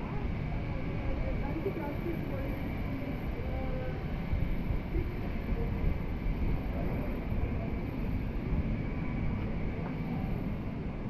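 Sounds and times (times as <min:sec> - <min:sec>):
faint chatter: 0:00.0 - 0:11.0
low street rumble: 0:00.0 - 0:11.0.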